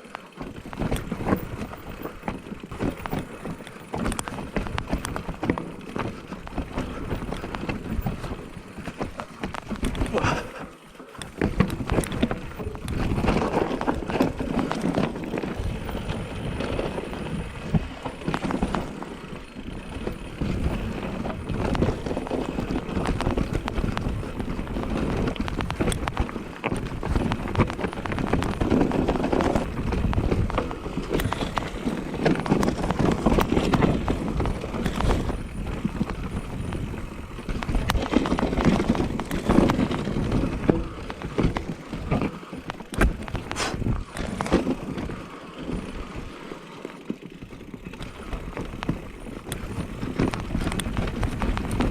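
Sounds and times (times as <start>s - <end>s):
bike clattering clicks and knocks: 0.0s - 51.9s
bike tyres rolling on dirt: 0.0s - 51.9s.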